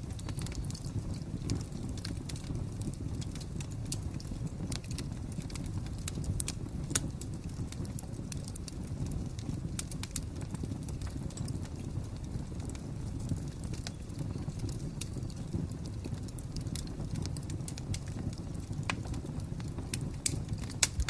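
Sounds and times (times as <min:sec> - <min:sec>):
fire pops and snaps: 0:00.0 - 0:21.0
wood fire crackling: 0:00.0 - 0:21.0.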